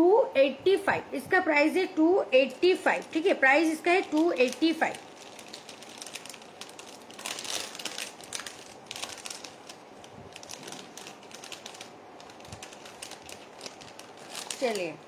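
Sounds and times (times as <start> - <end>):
packaging crinkling: 2.9 - 15.0.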